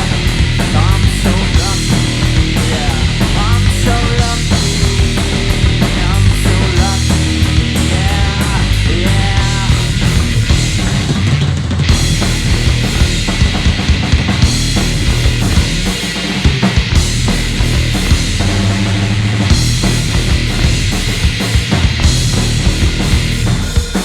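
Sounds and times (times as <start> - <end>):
bass guitar: 0.0 - 24.0
distorted electric guitar: 0.0 - 24.0
drum kit hits: 0.0 - 24.0.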